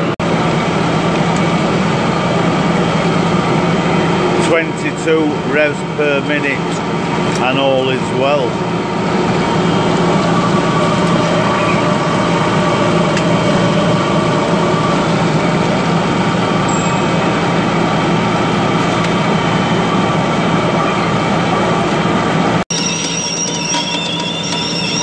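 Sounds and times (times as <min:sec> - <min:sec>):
lathe machining metal: 0:00.0 - 0:25.0.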